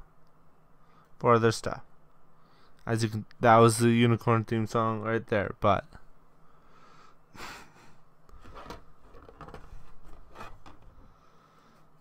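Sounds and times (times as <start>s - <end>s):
room hiss: 0.0s - 12.0s.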